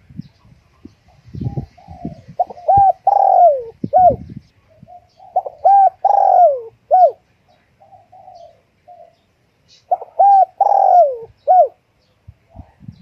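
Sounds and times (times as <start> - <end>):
dove cooing: 0.7 - 11.8.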